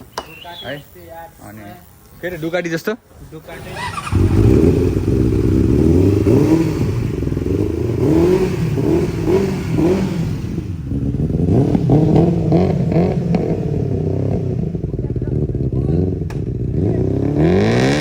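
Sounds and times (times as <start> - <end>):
motorcycle engine revving: 3.1 - 18.0.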